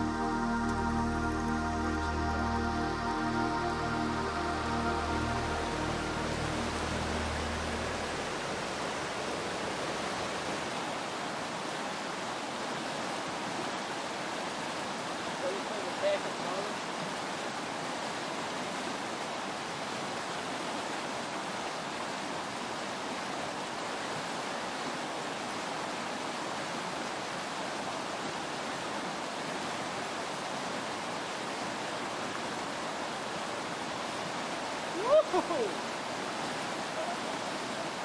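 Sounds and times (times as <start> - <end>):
river rushing over rocks: 0.0 - 38.0.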